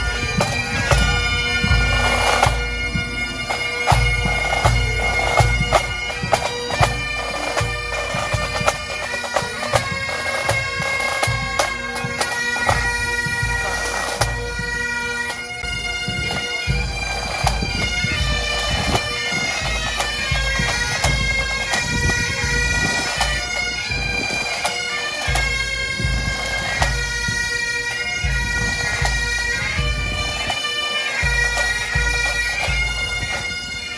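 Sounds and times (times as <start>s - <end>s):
bagpipes playing a melody: 0.0s - 33.9s.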